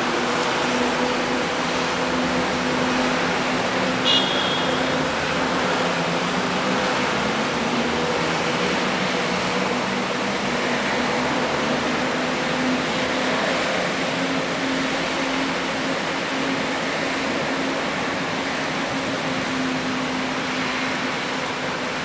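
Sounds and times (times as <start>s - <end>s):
rain hissing on street: 0.0s - 22.0s.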